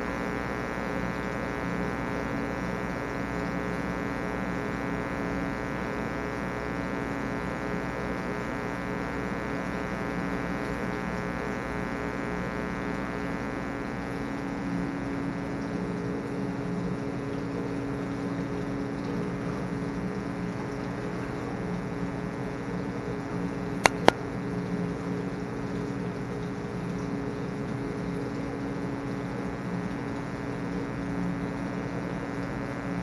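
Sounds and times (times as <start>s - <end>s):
electrical hum and buzz: 0.0s - 33.0s.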